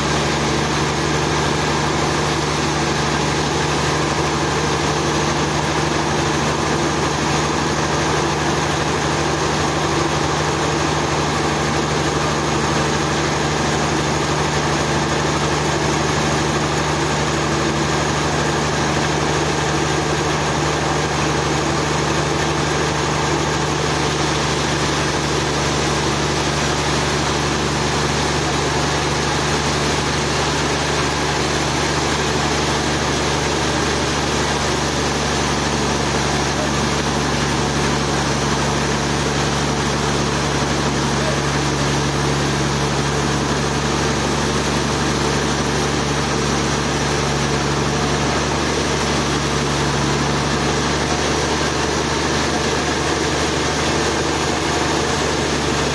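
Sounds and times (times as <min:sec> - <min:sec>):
sawmill engine hum: 0:00.0 - 0:55.9.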